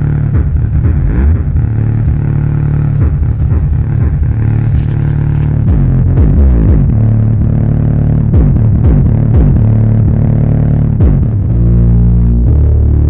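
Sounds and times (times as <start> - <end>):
bass-heavy electronic music: 0.0 - 13.0.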